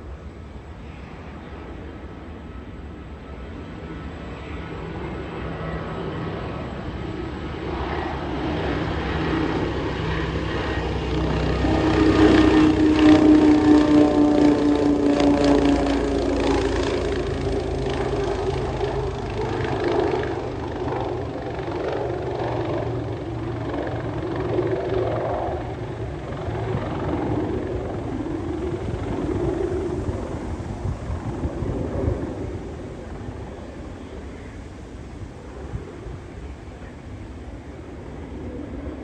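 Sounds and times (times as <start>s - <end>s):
turboprop propeller drone: 0.0s - 39.0s.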